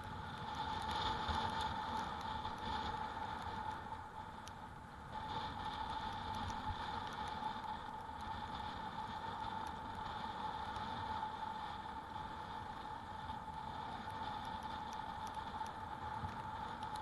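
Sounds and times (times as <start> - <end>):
bicycle tyre noise: 0.0 - 4.4, 5.0 - 17.0
wind noise: 0.0 - 17.0.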